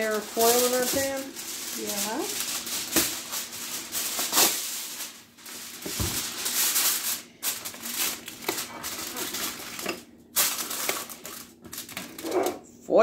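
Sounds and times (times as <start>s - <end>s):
aluminium foil crinkling: 0.0s - 12.6s.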